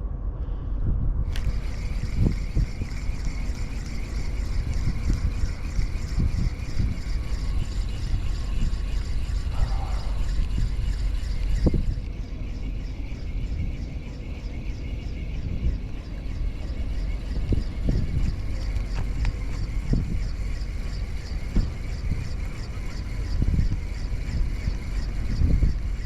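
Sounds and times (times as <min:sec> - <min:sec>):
small boat motor running: 0:01.3 - 0:26.0.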